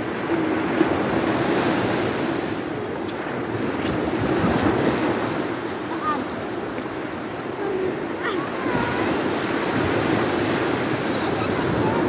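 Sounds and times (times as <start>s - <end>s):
sea surf washing ashore: 0.0s - 12.0s
wind on microphone: 0.0s - 12.0s.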